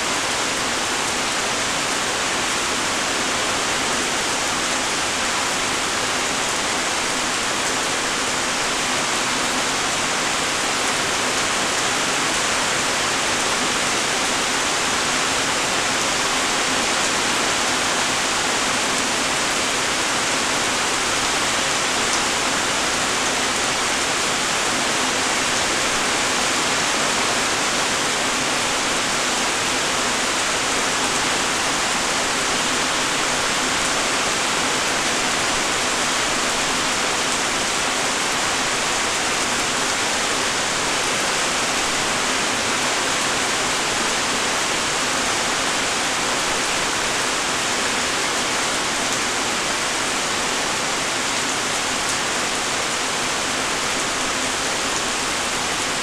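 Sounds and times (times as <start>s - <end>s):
light rain falling: 0.0s - 56.0s.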